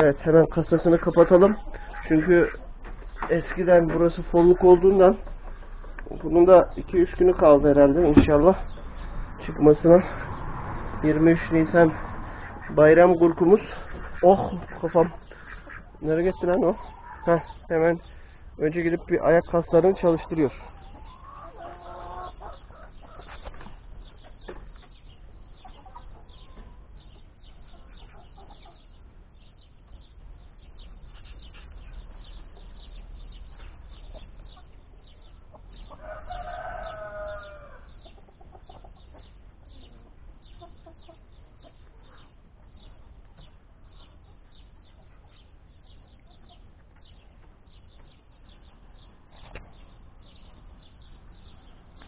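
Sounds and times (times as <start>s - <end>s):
chickens clucking: 0.0s - 52.0s
drawn-out chicken call: 0.6s - 29.1s, 33.9s - 47.1s.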